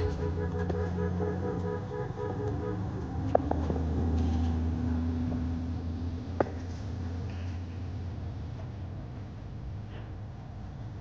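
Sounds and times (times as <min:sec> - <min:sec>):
diesel truck engine running: 0:00.0 - 0:09.8.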